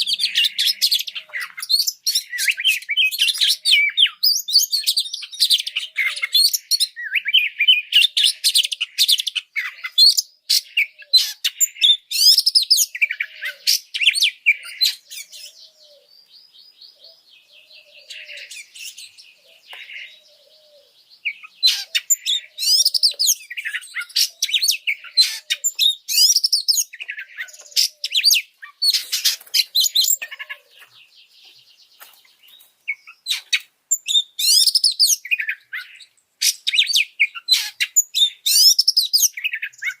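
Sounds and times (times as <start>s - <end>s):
bird singing whistles and trills: 0.0s - 30.4s, 32.6s - 40.0s.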